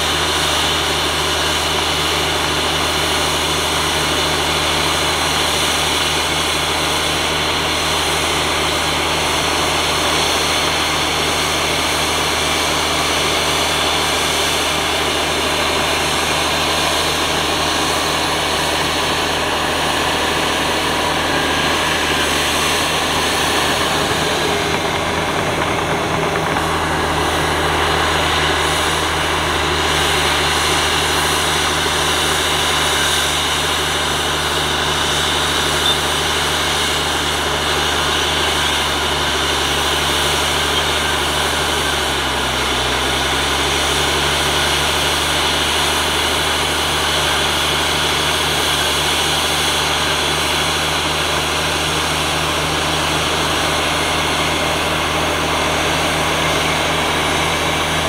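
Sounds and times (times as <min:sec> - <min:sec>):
diesel earthmoving machine running: 0:00.0 - 0:58.0.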